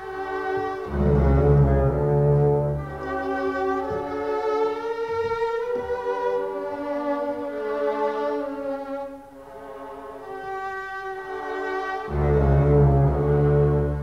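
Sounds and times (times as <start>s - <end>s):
string orchestra playing slow movement: 0.0s - 14.0s.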